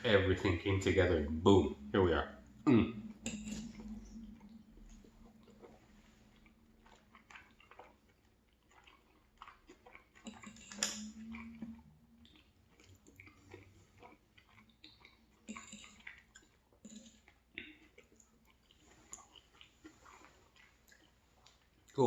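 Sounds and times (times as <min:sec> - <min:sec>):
person chewing food: 0:02.4 - 0:22.0.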